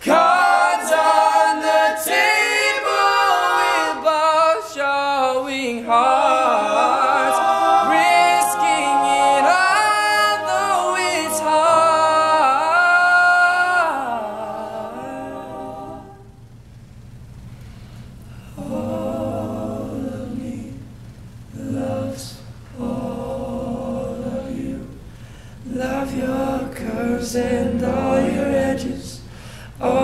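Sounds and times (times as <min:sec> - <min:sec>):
male choir singing in harmony: 0:00.0 - 0:16.3, 0:18.6 - 0:20.9, 0:21.6 - 0:25.0, 0:25.6 - 0:30.0.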